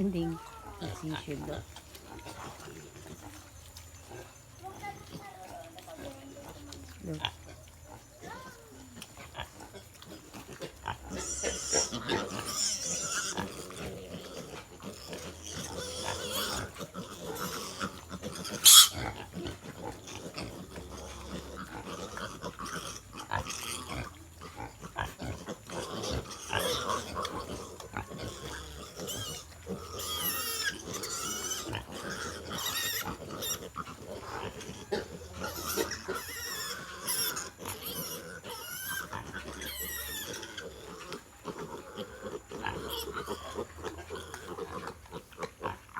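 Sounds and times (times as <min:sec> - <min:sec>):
piglets squealing: 0:07.9 - 0:45.8.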